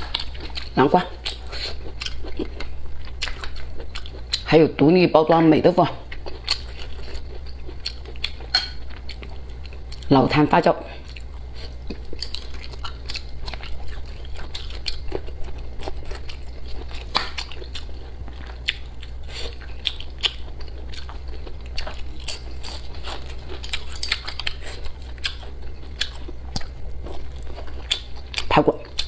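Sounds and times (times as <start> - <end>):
wet chewing: 0.0 - 4.9, 6.0 - 10.1, 11.0 - 29.0
low steady hum: 0.0 - 29.0.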